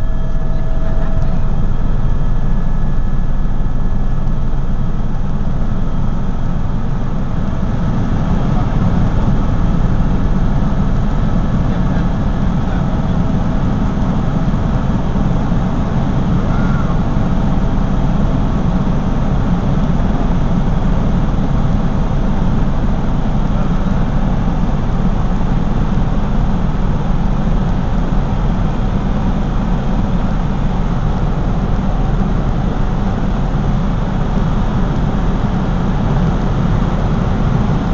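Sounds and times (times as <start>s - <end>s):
helicopter engine and rotor: 0.0s - 37.9s.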